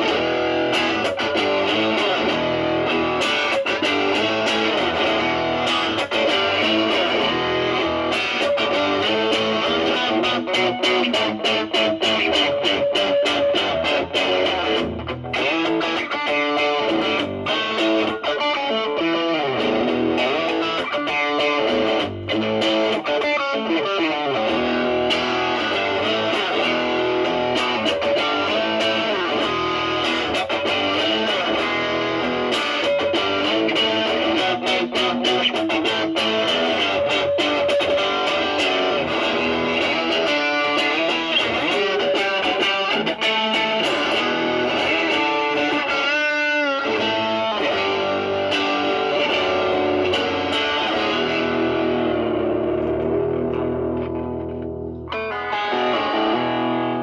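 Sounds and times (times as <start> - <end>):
distorted electric guitar blues lead: 0.0 - 57.0.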